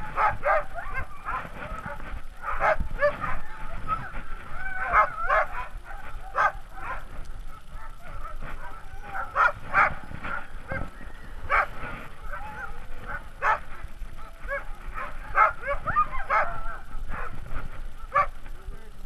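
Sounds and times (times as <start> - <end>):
sled dogs barking and yipping: 0.0 - 19.0.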